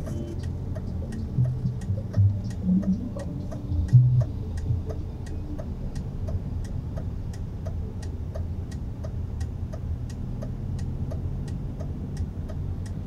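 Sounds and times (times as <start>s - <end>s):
car engine and tyre hum: 0.0s - 13.0s
turn signal clicking: 0.0s - 13.0s.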